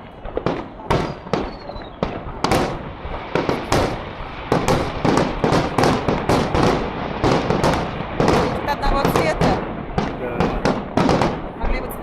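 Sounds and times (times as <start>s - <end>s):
fireworks bursting with bangs: 0.0s - 12.0s
fireworks crackle: 0.0s - 12.0s.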